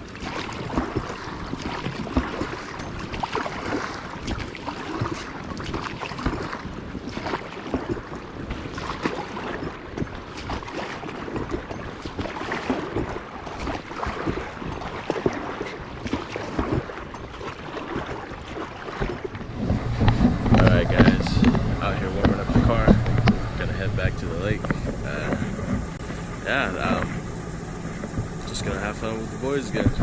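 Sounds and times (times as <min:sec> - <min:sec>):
boat knocking: 0:00.0 - 0:30.0
water splashing: 0:00.0 - 0:30.0
wind noise on microphone: 0:00.0 - 0:30.0.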